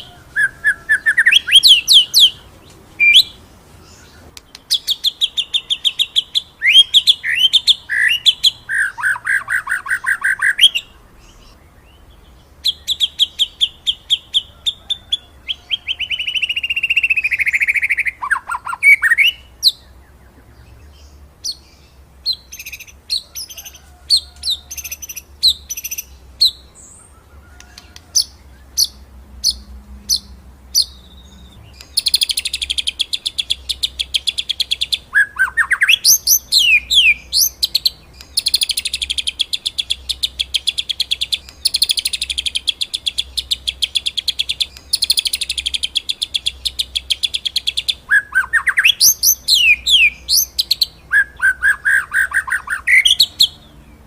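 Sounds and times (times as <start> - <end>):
bird singing fast trills: 0.0 - 54.0.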